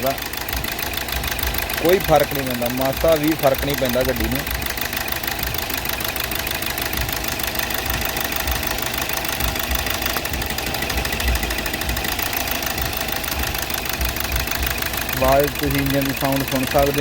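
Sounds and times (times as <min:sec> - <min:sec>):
engine running rough and knocking: 0:00.0 - 0:17.0.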